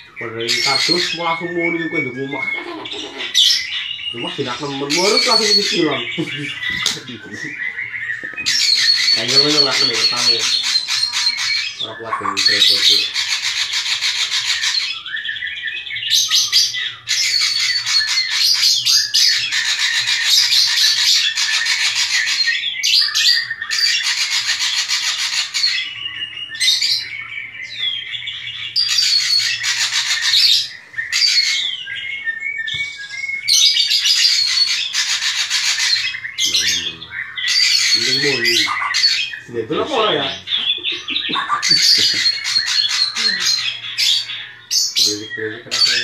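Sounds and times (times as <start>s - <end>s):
bird singing harsh notes: 0.0s - 46.0s
bird whistles: 0.0s - 46.0s.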